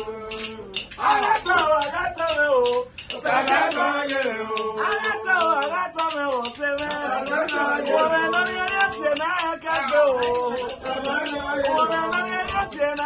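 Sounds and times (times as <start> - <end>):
clicking hand-percussion beat: 0.0 - 13.0
man singing: 0.0 - 13.0.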